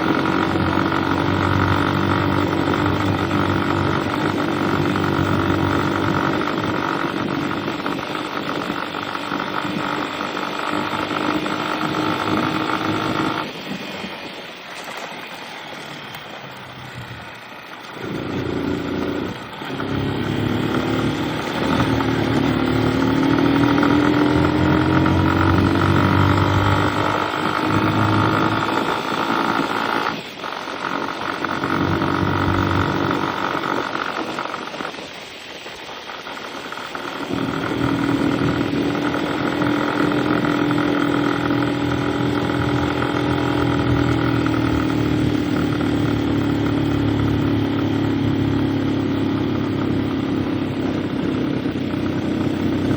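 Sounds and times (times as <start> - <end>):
vehicle engine droning: 0.0 - 52.9.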